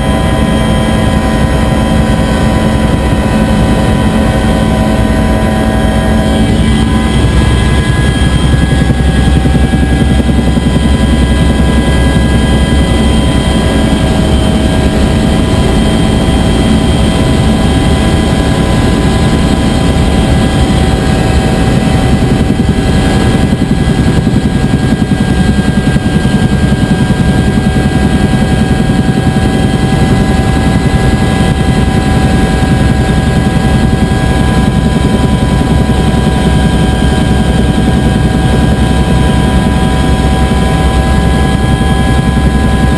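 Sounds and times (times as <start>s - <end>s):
helicopter rotor and engine rumble: 0.0s - 42.9s
turbine whine: 0.0s - 42.9s.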